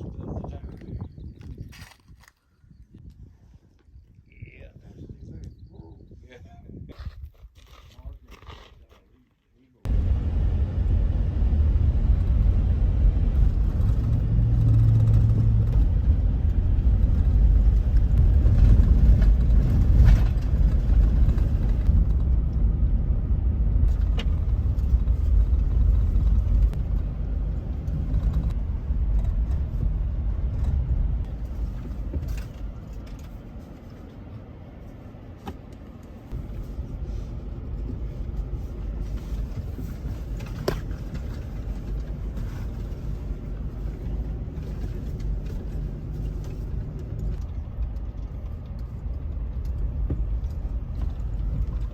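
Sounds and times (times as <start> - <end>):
vehicle engine and road noise: 9.8 - 51.9.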